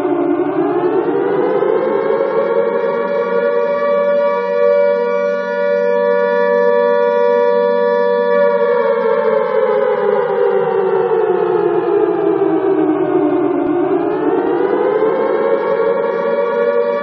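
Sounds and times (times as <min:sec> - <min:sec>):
alarm siren wailing: 0:00.0 - 0:17.0.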